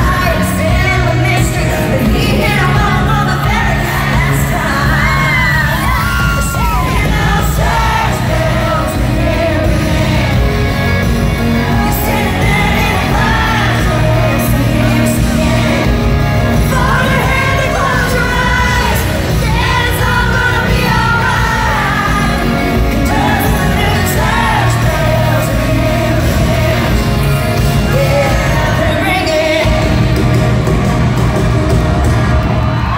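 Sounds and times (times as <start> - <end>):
woman singing lead: 0.0 - 31.4
loud rock band with drums: 0.0 - 32.9
crowd shouting: 4.2 - 32.9.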